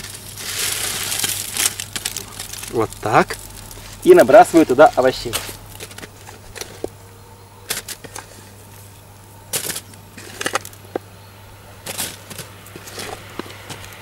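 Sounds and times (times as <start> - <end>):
aluminium foil rustling: 0.0 - 11.0, 11.7 - 14.0.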